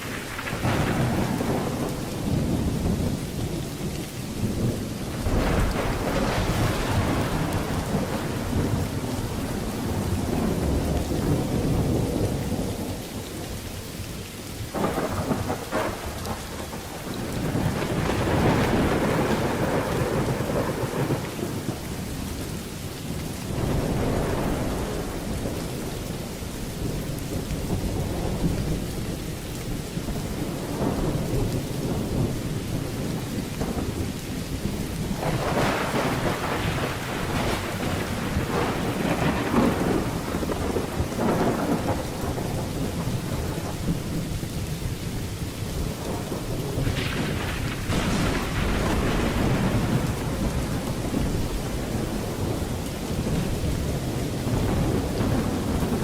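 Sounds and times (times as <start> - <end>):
rain falling: 0.0 - 56.0
thunder rumbling: 0.0 - 56.0.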